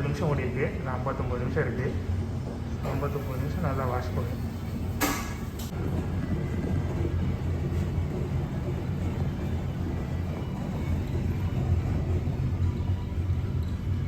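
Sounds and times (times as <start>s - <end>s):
washer-dryer low rumble: 0.0s - 14.0s.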